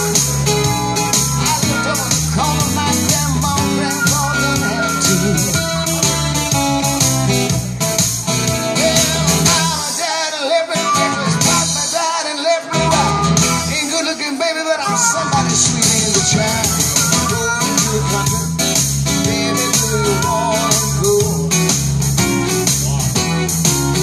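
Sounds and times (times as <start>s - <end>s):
man singing: 0.0s - 7.6s, 8.3s - 24.0s
harmonica wailing: 0.0s - 7.8s, 8.4s - 24.0s
acoustic guitar strumming: 0.0s - 24.0s.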